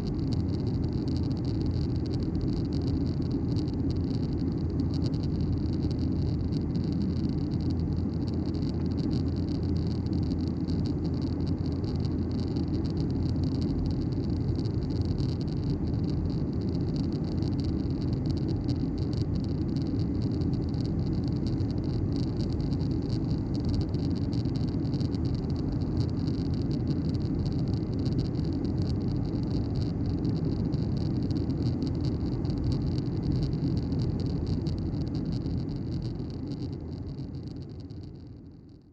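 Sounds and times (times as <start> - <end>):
jet engine hum in cabin: 0.0 - 38.9.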